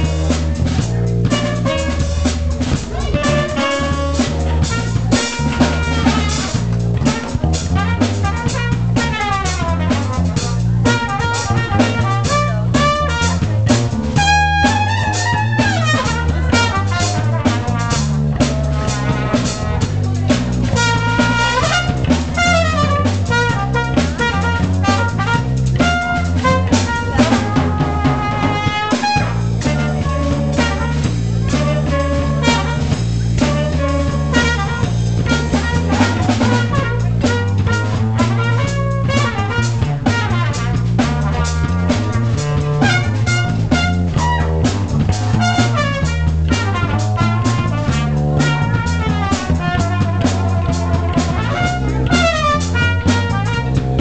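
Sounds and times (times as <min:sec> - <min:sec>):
drum kit: 0:00.0 - 0:54.0
low bass line: 0:00.0 - 0:54.0
trumpet lead lines: 0:00.0 - 0:54.0.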